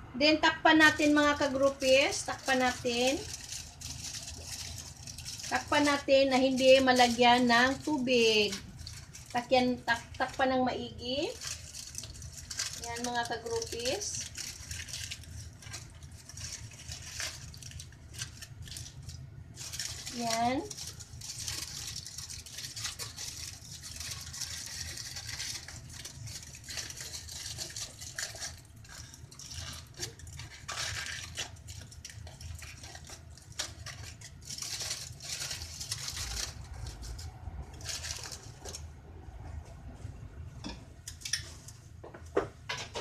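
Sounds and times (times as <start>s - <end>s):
aluminium foil crinkling: 0.7s - 39.0s, 40.6s - 43.0s.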